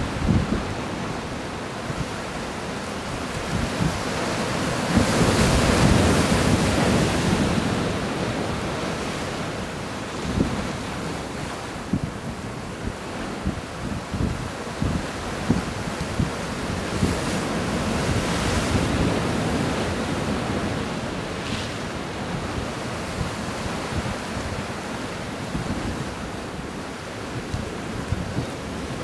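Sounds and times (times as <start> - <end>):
sea waves washing against breakwater: 0.0 - 29.0
wind buffeting microphone: 0.0 - 29.0.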